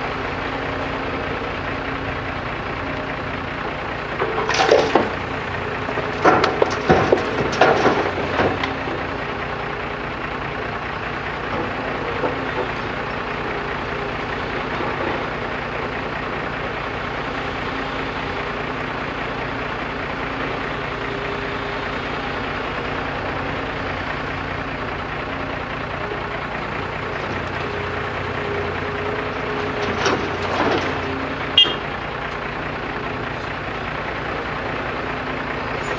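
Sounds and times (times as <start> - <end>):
engine rasps: 0.0 - 35.9
heavy diesel engine running: 0.0 - 35.9.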